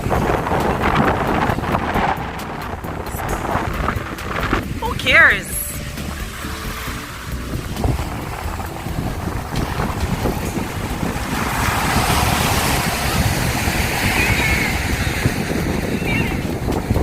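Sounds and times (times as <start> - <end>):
surf washing on a beach: 0.0 - 17.0
wind buffeting microphone: 0.0 - 17.0.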